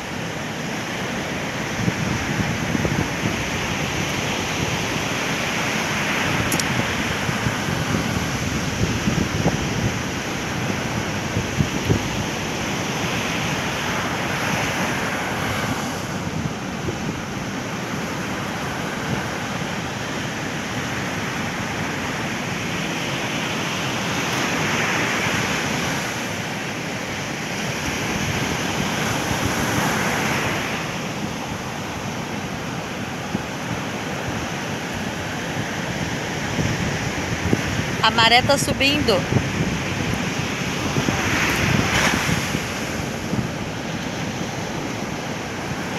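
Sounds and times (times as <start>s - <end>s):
ocean surf breaking: 0.0s - 45.9s
wind buffeting microphone: 1.0s - 19.9s, 27.5s - 45.9s.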